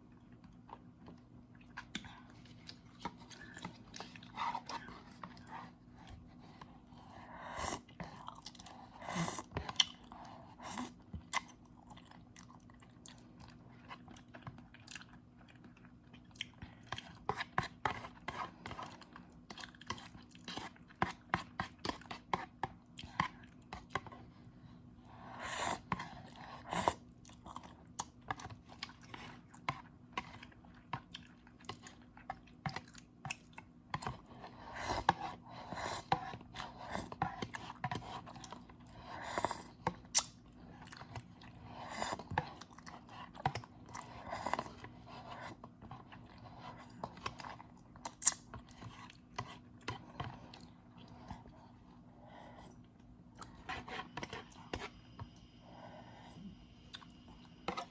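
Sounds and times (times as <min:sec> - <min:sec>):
person chewing noodles: 0:00.1 - 0:24.2, 0:25.1 - 0:52.0.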